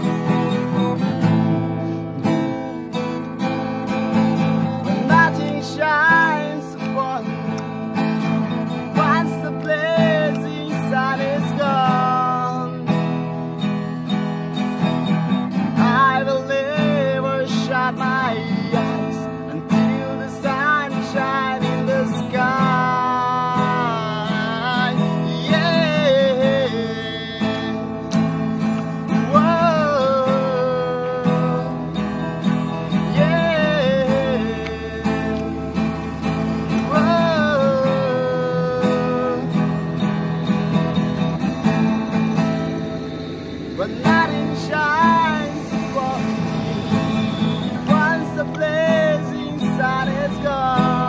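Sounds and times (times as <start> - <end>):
acoustic guitar strumming: 0.0 - 51.0
man singing: 2.2 - 13.3, 15.6 - 41.2, 43.7 - 51.0.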